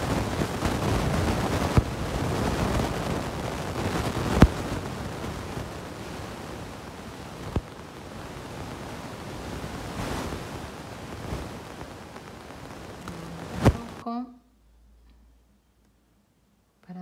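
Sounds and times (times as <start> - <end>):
rushing background hiss: 0.0 - 14.2.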